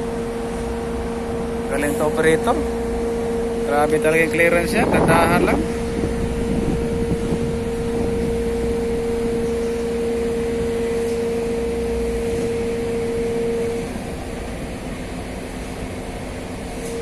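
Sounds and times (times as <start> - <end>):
crane engine rumble: 0.0 - 17.0
steady high whine: 0.0 - 17.0.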